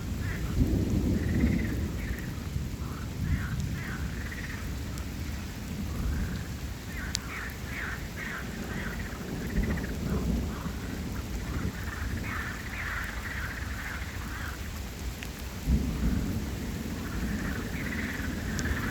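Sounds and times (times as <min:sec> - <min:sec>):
steady rain: 0:00.0 - 0:18.9
thunder rumbling: 0:00.0 - 0:18.9.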